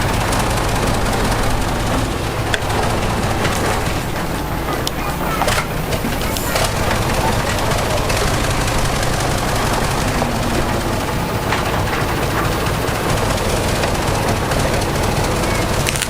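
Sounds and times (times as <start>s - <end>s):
continuous rattling clatter: 0.0s - 16.0s
diesel machine engine drone: 0.0s - 16.0s.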